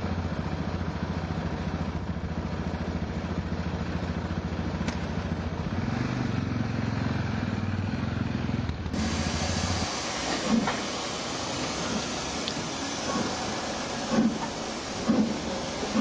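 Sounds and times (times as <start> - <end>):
diesel locomotive engine idling: 0.0 - 5.8, 8.4 - 16.0.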